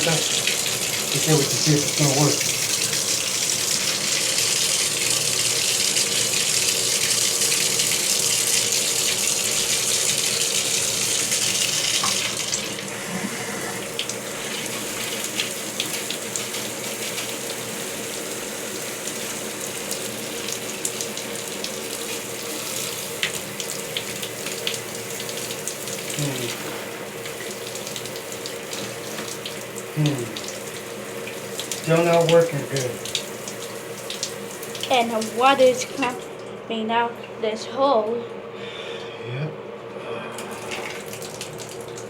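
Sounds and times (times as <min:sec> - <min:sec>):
water drips and splashes: 0:00.0 - 0:12.9, 0:13.8 - 0:36.6, 0:40.4 - 0:42.0
shower water spraying: 0:00.0 - 0:36.4, 0:40.3 - 0:42.0.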